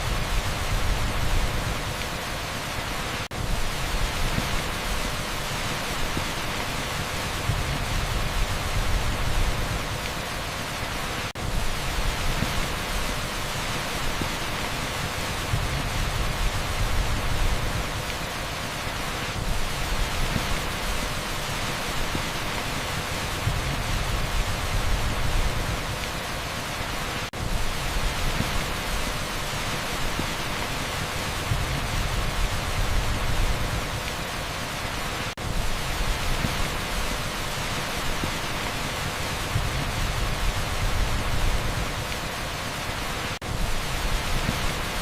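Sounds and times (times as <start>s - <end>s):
torrential rain on asphalt: 0.0s - 45.0s.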